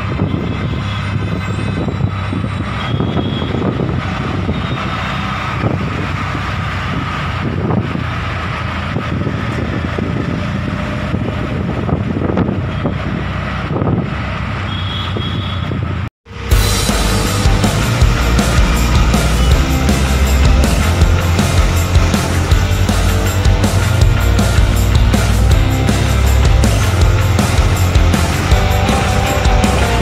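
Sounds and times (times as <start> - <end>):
auto-rickshaw engine running: 0.0 - 30.0
road and traffic noise: 0.0 - 30.0.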